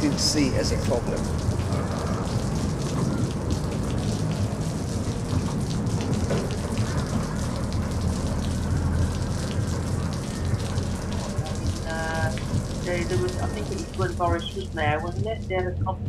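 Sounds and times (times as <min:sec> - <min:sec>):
road noise hiss: 0:00.0 - 0:14.9
bus engine drone: 0:00.0 - 0:16.0.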